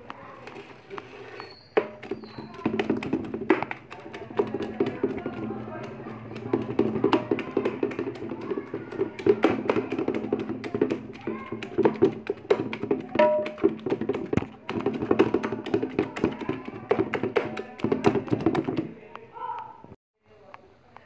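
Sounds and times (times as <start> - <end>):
wooden spoon tapping metal pot: 1.8 - 18.9.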